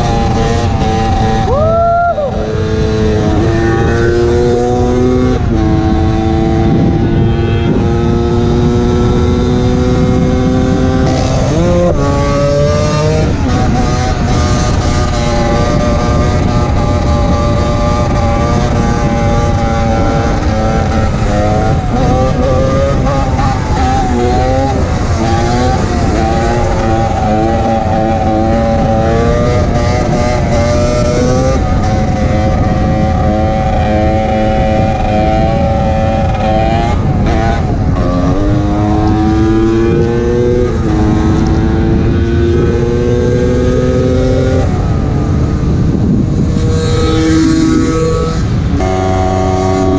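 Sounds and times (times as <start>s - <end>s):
two-stroke motorcycle engine revving: 0.0s - 1.6s, 2.3s - 49.9s.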